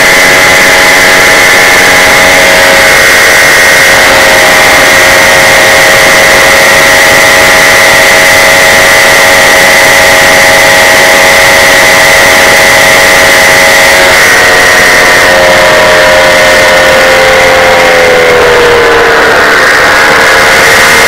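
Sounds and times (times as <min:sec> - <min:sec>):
paramotor engine droning: 0:00.0 - 0:21.0.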